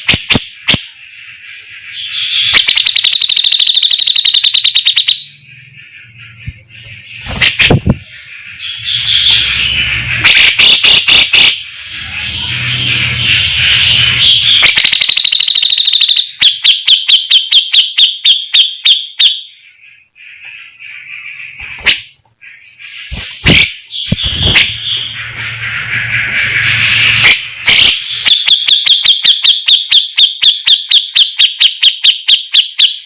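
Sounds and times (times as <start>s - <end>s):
bulbul singing: 0.4s - 33.0s.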